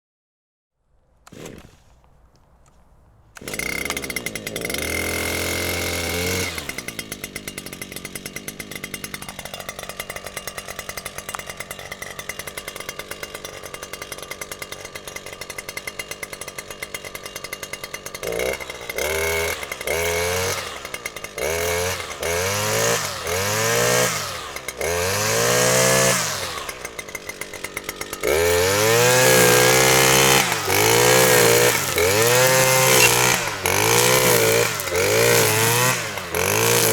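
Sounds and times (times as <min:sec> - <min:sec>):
grass trimmer engine revving: 0:01.2 - 0:01.9, 0:03.4 - 0:36.9.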